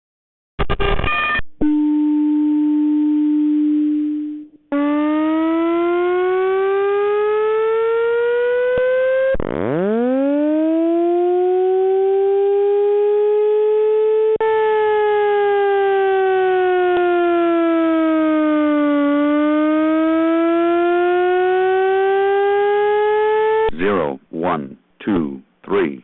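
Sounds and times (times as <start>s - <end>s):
steady alarm tone: 1.2s - 23.8s
rising siren tone: 1.7s - 23.7s.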